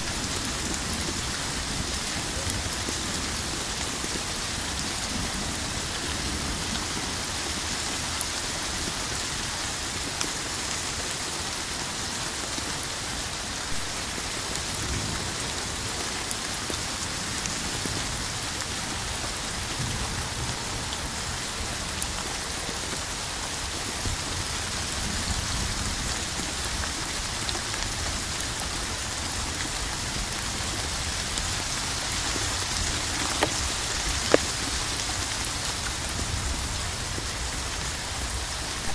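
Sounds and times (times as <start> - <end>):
heavy rain on hard surface: 0.0 - 38.9.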